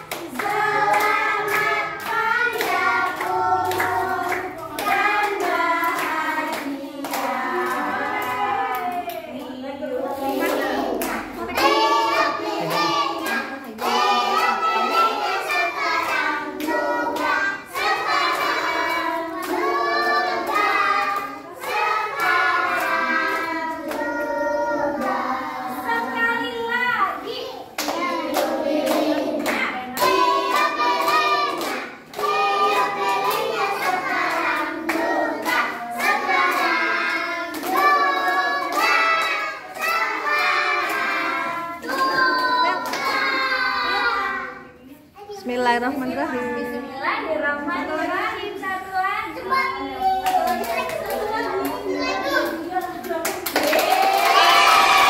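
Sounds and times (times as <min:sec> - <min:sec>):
children clapping: 0:00.0 - 0:09.5, 0:10.3 - 0:24.1, 0:27.8 - 0:44.4, 0:50.0 - 0:55.0
children singing: 0:00.0 - 0:26.4, 0:27.7 - 0:44.9, 0:49.4 - 0:52.8, 0:53.5 - 0:55.0.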